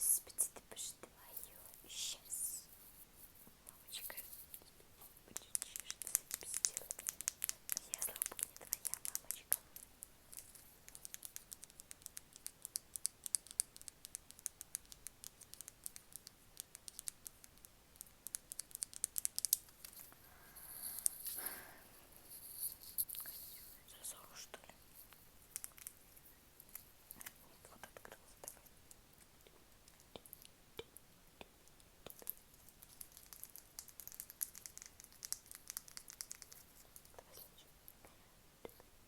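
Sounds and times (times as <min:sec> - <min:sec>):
light crisp taps and clicks: 0:00.3 - 0:38.9.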